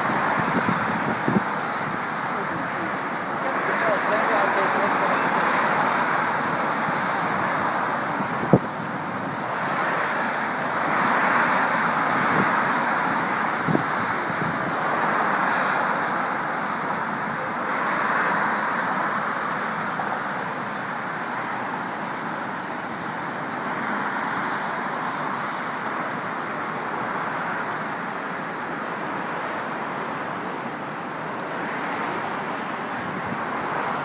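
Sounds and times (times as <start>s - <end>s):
street traffic: 0.0s - 34.0s.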